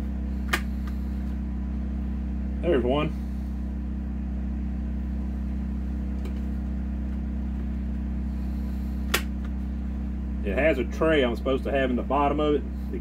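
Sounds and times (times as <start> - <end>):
low electrical mains hum: 0.0 - 13.0.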